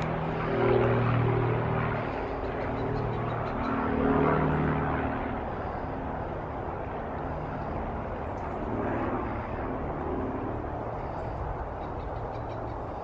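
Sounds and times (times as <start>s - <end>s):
distant engine drone: 0.0s - 13.0s.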